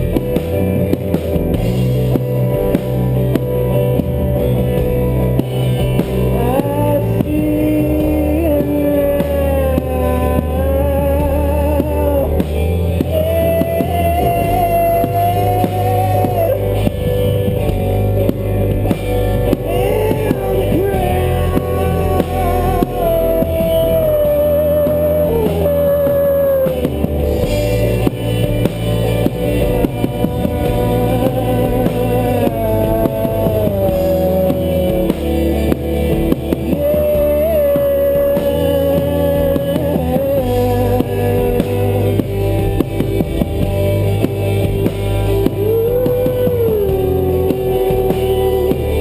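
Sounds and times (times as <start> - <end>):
bending lead guitar line: 0.0 - 49.0
rock band playing live: 0.0 - 49.0.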